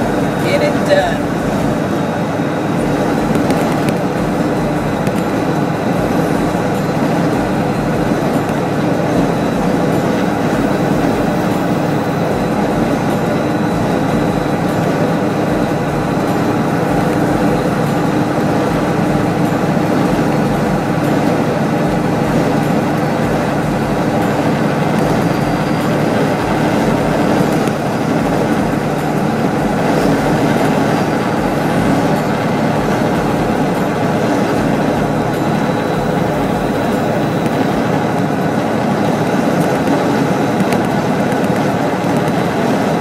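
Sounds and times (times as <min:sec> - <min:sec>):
diesel engine drone: 0:00.0 - 0:43.0
tyre and road noise: 0:00.0 - 0:43.0.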